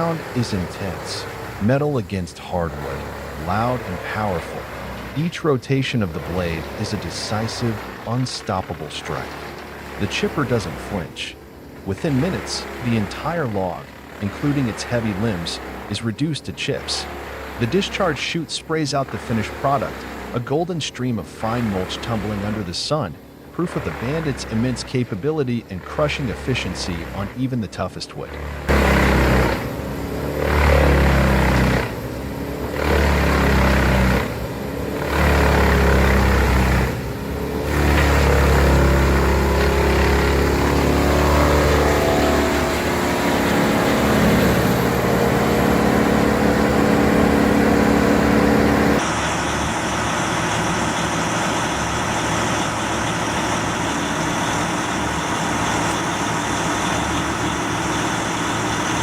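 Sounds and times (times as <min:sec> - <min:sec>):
steady machine drone: 0:00.0 - 0:59.0
wood chipper running under load: 0:00.0 - 0:59.0.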